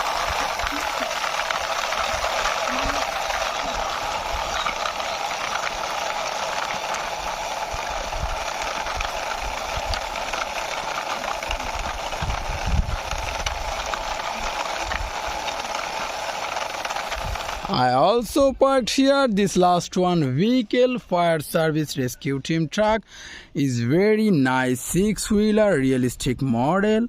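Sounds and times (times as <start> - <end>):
toy truck wheels rolling and rattling: 0.0 - 22.2.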